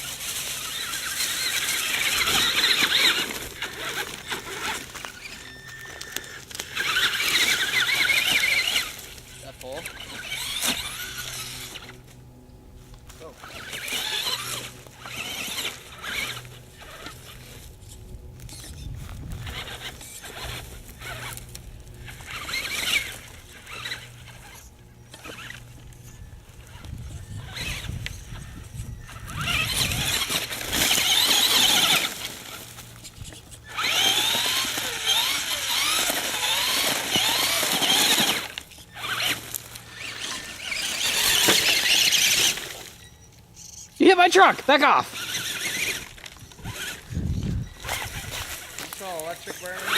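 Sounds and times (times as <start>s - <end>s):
steady low hum: 0.0s - 44.0s
electric motor whining: 0.0s - 49.9s.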